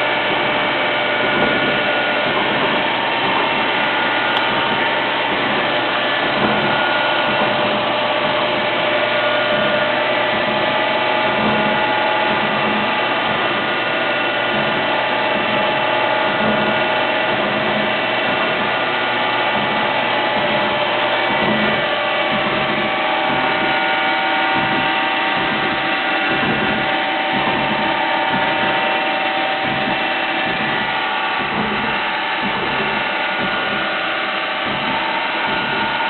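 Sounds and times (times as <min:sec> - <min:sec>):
milling machine spindle whine: 0:00.0 - 0:36.0.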